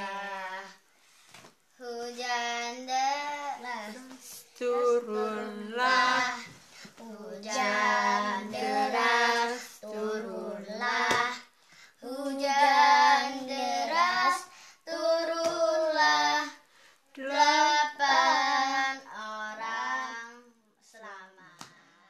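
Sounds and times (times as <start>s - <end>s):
girls singing unaccompanied: 0.0s - 0.8s, 1.8s - 21.9s.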